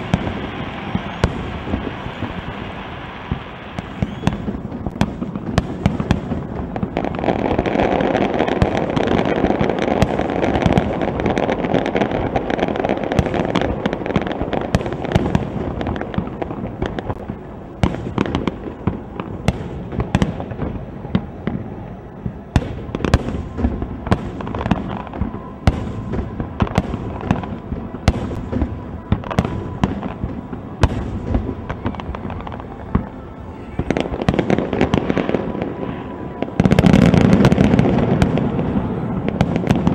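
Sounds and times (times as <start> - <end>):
firework bangs: 0.0 - 39.9
fireworks crackle and rumble: 0.0 - 39.9.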